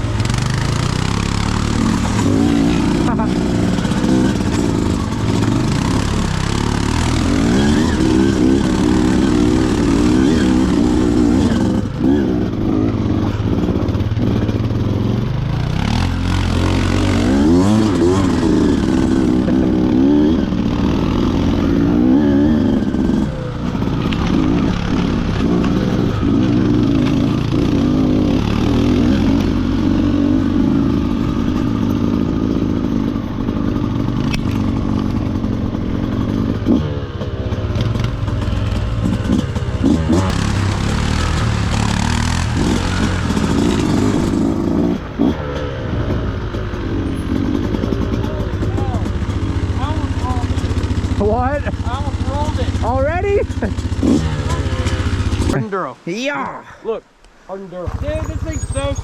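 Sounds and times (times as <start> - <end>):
off-road vehicle engine revving: 0.0 - 56.7, 57.8 - 59.0.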